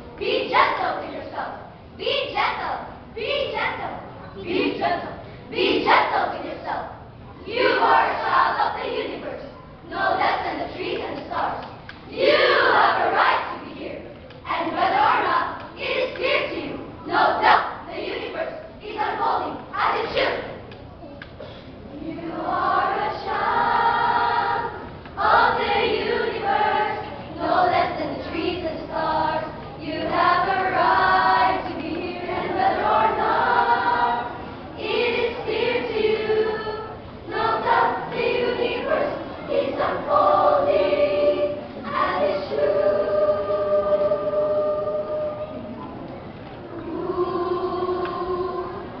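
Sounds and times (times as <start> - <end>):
children's choir singing: 0.0 - 20.8, 21.8 - 49.0.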